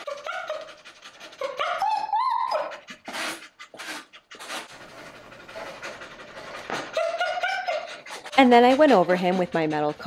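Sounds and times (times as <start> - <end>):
dog whining: 0.0 - 9.7
dog breathy sounds: 0.0 - 10.0.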